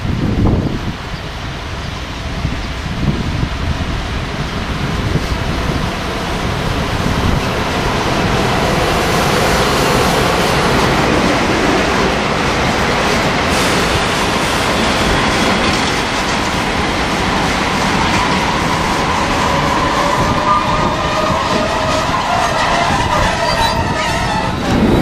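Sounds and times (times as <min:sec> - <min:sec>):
electric locomotives passing: 0:00.0 - 0:25.0
wheel-on-rail noise: 0:00.0 - 0:25.0.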